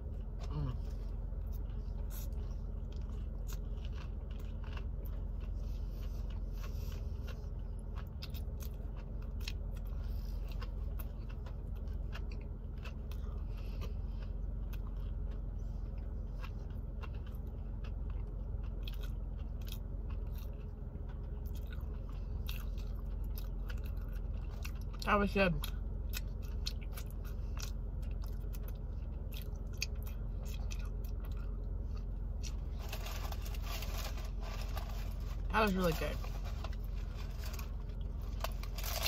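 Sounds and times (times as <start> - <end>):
person chewing sandwich: 0.0 - 39.0
steady low hum: 0.0 - 39.0.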